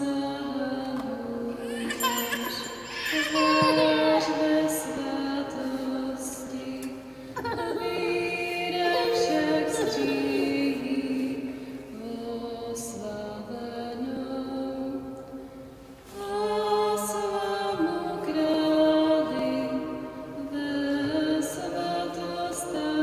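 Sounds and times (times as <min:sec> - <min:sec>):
congregation singing a hymn: 0:03.2 - 0:14.8, 0:16.1 - 0:23.0.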